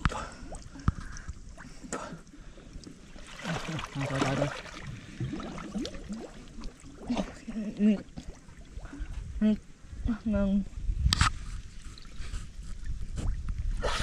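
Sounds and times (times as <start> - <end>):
water sloshing and gurgling: 0.0 - 14.0.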